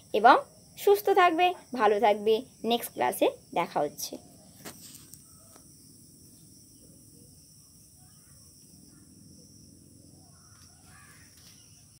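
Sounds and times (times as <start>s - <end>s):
faint chirps: 1.5s - 12.0s.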